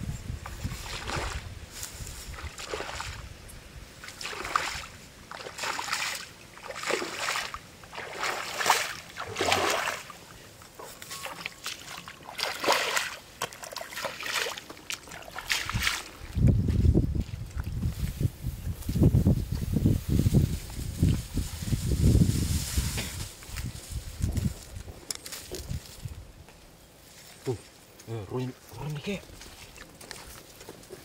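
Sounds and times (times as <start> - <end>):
water and mud splashing: 0.3 - 24.5, 28.8 - 31.0.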